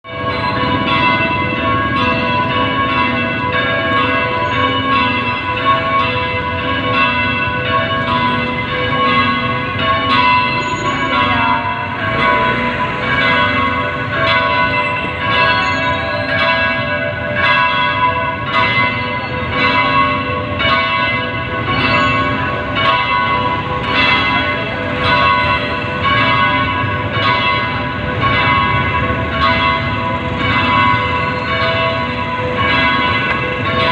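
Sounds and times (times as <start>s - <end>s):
church bells pealing: 0.0s - 33.9s.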